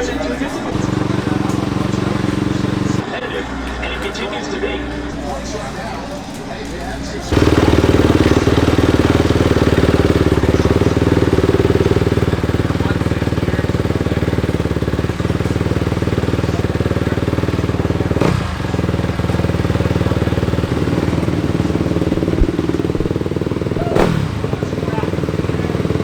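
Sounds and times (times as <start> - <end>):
motocross bike engine running: 0.0 - 26.0.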